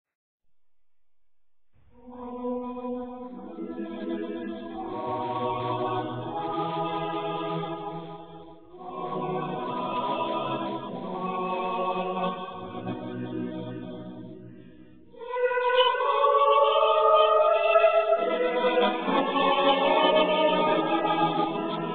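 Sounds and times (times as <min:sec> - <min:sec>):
choir singing a hymn: 0:02.0 - 0:21.9.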